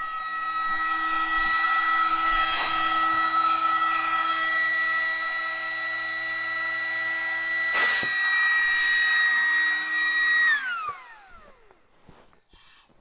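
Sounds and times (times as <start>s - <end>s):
electric air pump whining: 0.0s - 12.4s.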